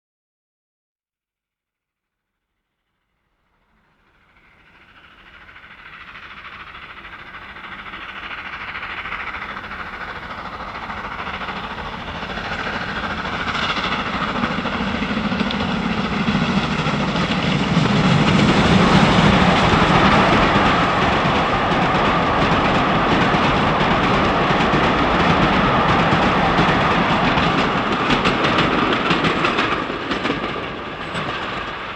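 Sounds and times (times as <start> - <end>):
steam train approaching: 3.4 - 31.9.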